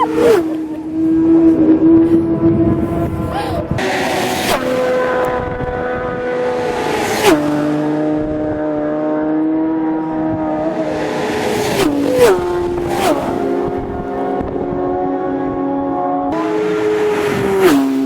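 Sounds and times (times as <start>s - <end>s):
racing motorcycles passing: 0.0s - 18.0s.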